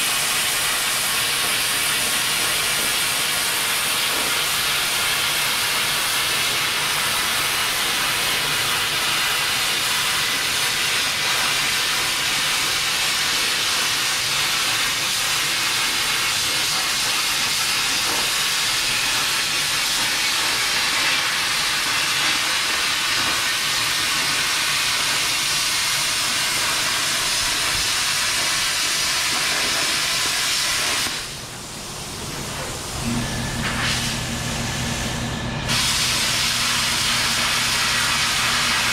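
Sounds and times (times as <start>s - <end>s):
cutting torch hissing: 0.0s - 38.9s.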